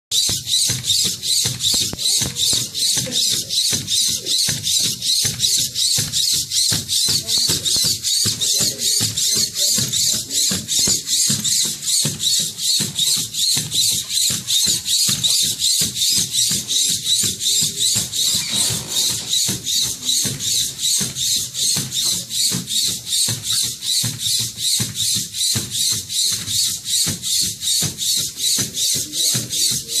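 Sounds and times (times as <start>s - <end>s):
music with quick beat: 0.1s - 30.0s.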